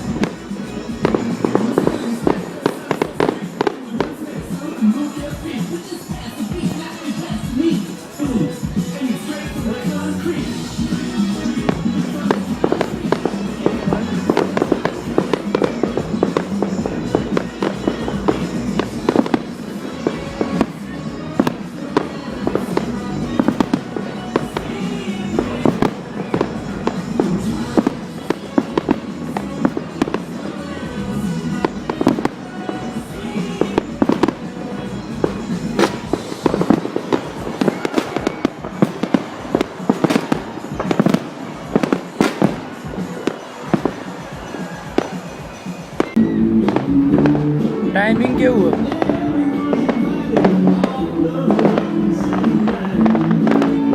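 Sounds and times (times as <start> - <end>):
background music: 0.0 - 53.9
fireworks exploding: 0.0 - 53.9.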